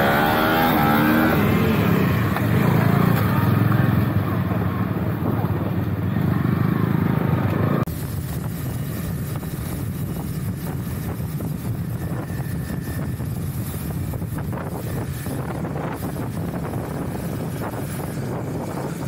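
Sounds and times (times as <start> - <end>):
motorcycle engine running: 0.0 - 19.0
wind noise on microphone: 0.0 - 19.0.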